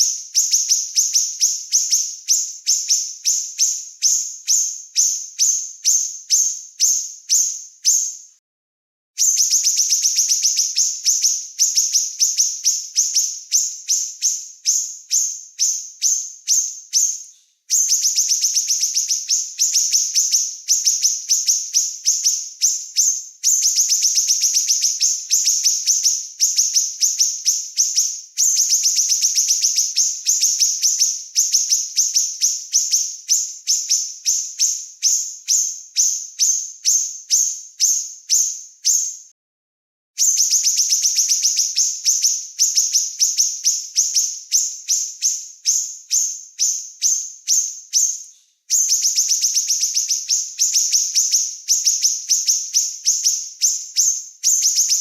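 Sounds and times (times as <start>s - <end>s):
songbird trilling: 0.0s - 8.2s, 9.2s - 39.2s, 40.2s - 55.0s.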